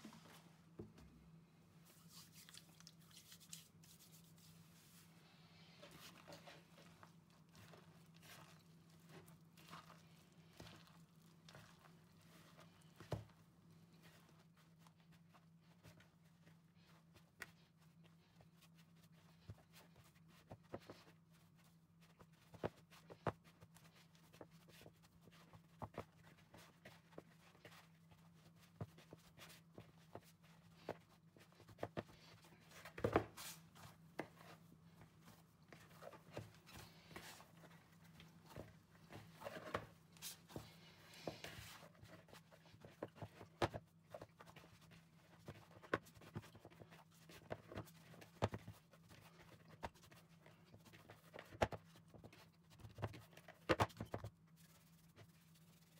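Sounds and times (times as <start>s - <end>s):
hands kneading dough: 0.0s - 55.9s.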